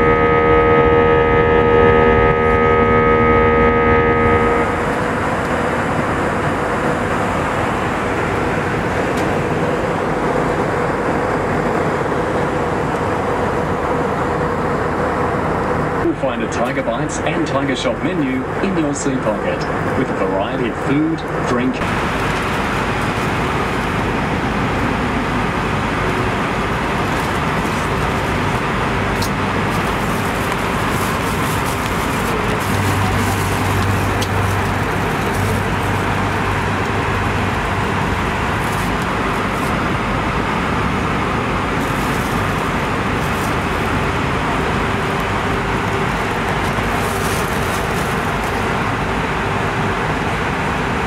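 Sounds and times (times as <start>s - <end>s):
low hum: 0.0s - 20.0s, 20.7s - 50.0s
airplane cabin noise: 0.0s - 51.0s.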